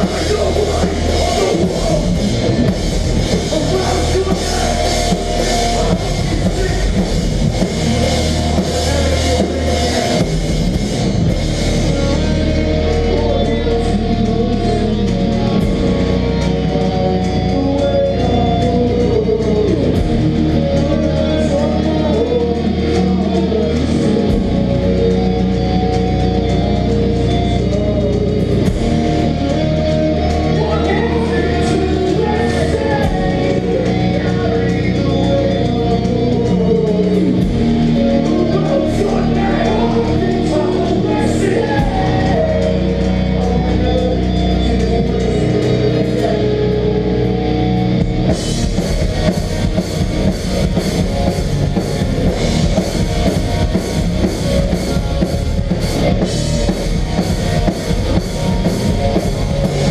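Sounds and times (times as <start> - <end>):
distorted guitars playing chords: 0.0 - 59.9.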